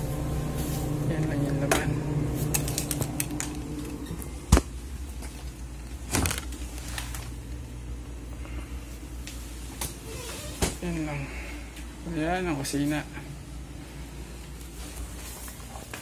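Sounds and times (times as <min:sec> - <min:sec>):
refrigerator hum: 0:00.0 - 0:16.0.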